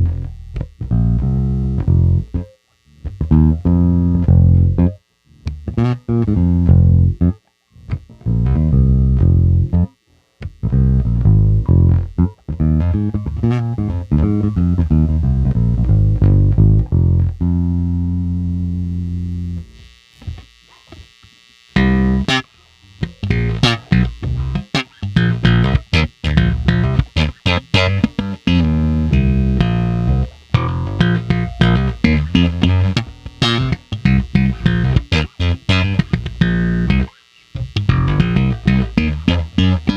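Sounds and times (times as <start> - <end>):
electric bass guitar notes: 0.0 - 20.4, 21.8 - 39.9.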